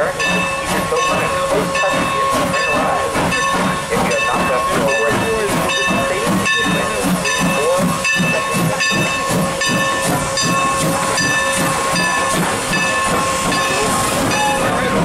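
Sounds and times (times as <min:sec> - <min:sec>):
steam hissing: 0:00.0 - 0:15.0
steam locomotive running gear pulse: 0:00.0 - 0:15.0.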